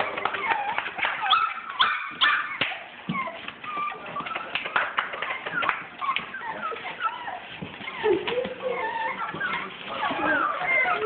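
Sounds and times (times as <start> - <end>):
puppies whining and squealing: 0.0 - 11.0.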